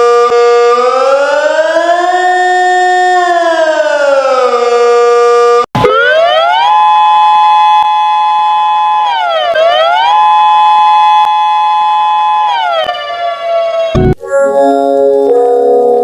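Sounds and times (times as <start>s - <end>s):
two-tone alarm siren: 0.0s - 16.0s.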